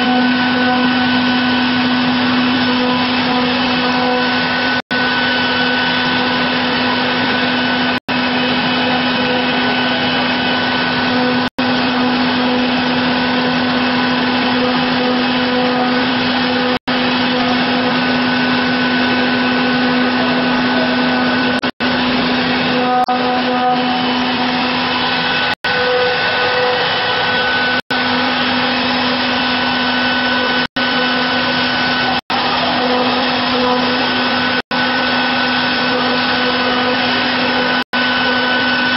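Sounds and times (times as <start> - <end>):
machine whine: 0.0 - 38.9
router machine hum: 0.0 - 38.9.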